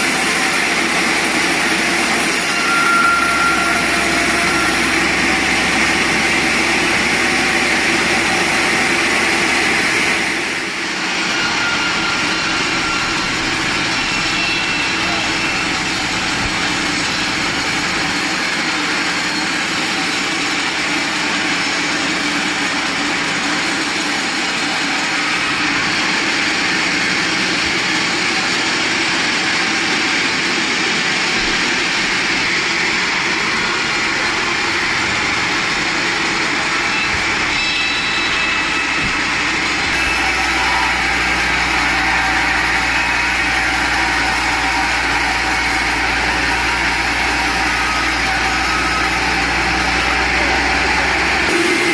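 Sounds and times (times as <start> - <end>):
sawmill machinery droning: 0.0 - 51.9.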